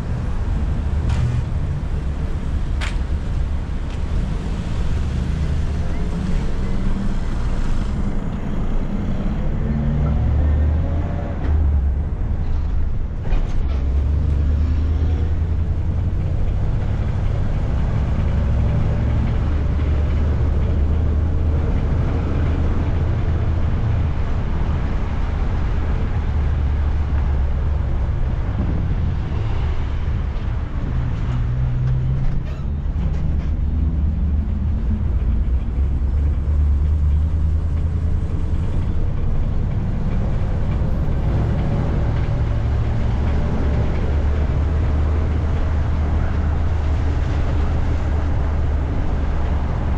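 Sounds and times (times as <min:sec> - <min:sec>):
minibus engine and road rumble: 0:00.0 - 0:49.9.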